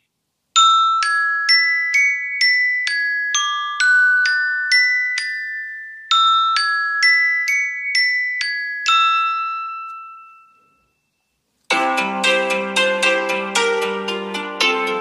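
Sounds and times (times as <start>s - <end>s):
plucked note ringtone: 0.6s - 11.1s, 11.7s - 15.0s
bell-like mallet ringtone: 0.6s - 15.0s.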